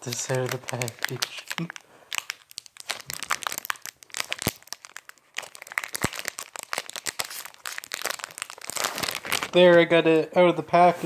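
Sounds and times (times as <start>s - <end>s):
packaging crinkling: 0.0s - 9.9s.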